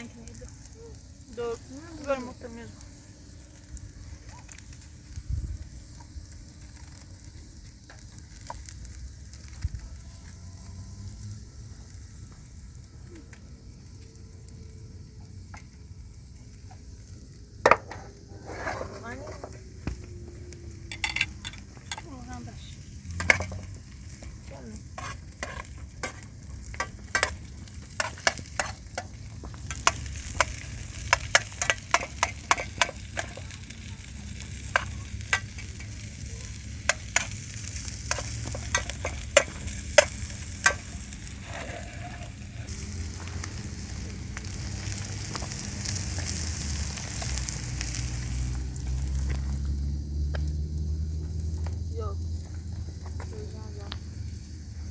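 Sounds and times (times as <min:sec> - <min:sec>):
food sizzling with crackles: 0:00.0 - 0:54.9.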